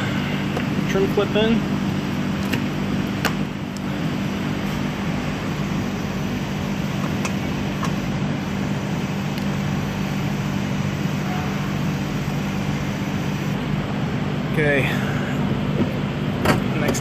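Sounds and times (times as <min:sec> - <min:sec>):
shop machinery drone: 0:00.0 - 0:17.0.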